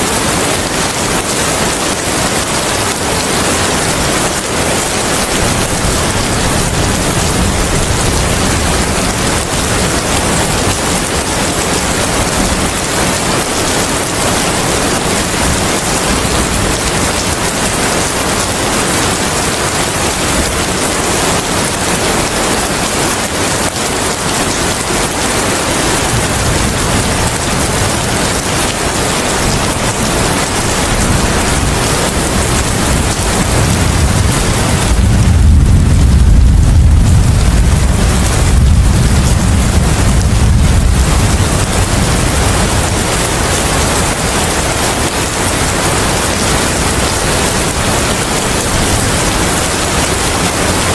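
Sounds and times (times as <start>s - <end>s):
steady rain hiss: 0.0s - 50.9s
wind low rumble: 0.0s - 50.9s.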